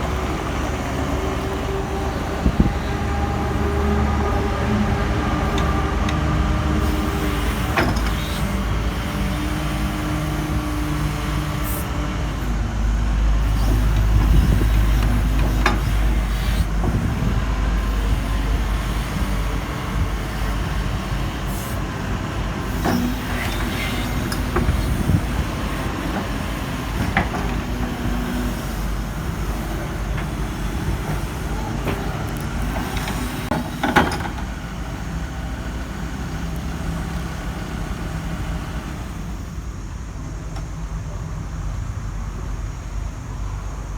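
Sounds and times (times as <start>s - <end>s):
diesel engine rumbling: 0.0s - 43.9s.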